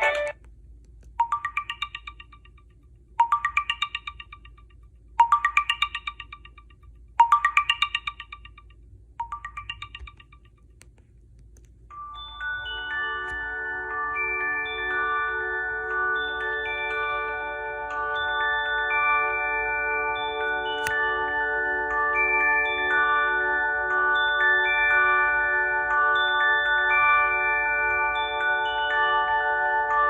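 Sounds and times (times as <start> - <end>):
phone ringtone: 0.0 - 0.4, 1.2 - 2.6, 3.2 - 4.6, 5.2 - 10.4, 11.9 - 30.0
ringtone with held notes: 0.0 - 0.4, 1.2 - 10.6, 11.9 - 30.0.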